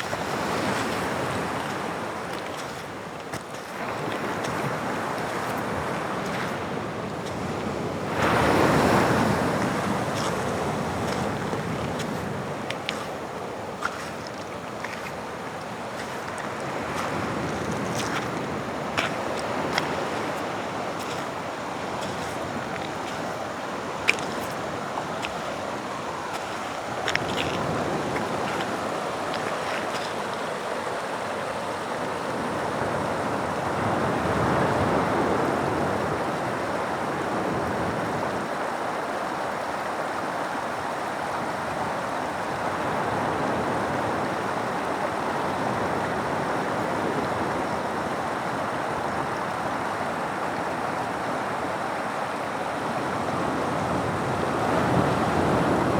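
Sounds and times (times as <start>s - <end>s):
waves breaking on rocky shore: 0.0s - 55.9s.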